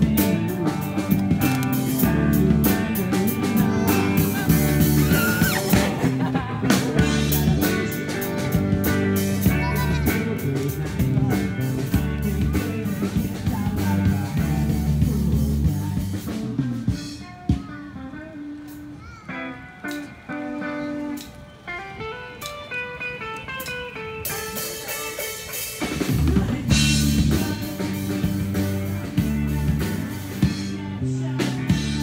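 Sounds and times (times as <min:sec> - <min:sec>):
rock music with singing: 0:00.0 - 0:32.0.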